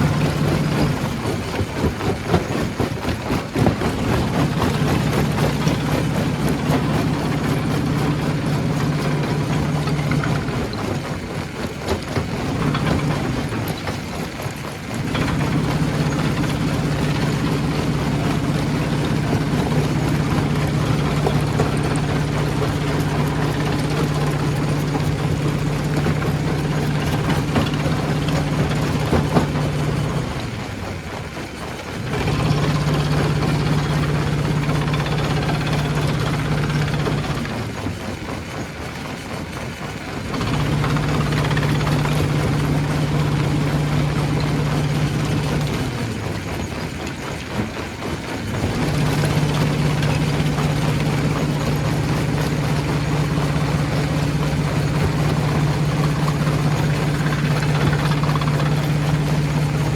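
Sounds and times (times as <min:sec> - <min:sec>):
heavy machinery engine humming: 0:00.0 - 0:59.9.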